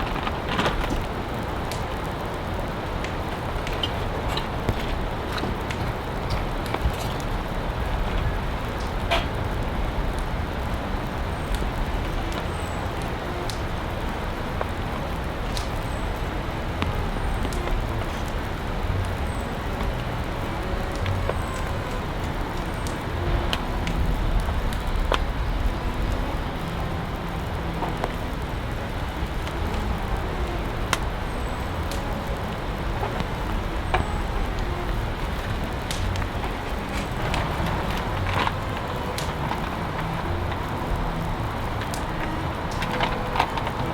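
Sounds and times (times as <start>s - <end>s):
drops ticking: 0.0s - 43.9s
heavy rain: 0.0s - 43.9s.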